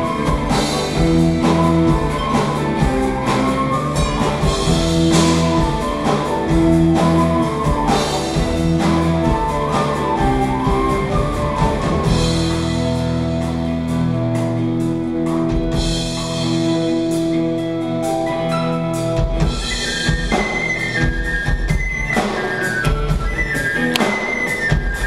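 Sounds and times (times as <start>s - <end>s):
folk-rock band playing: 0.0s - 25.0s.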